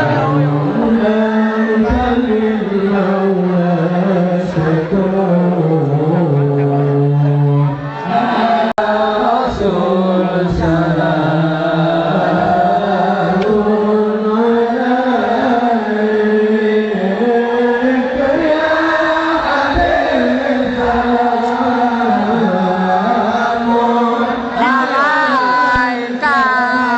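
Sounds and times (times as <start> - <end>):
devotional chant singing: 0.0 - 26.9.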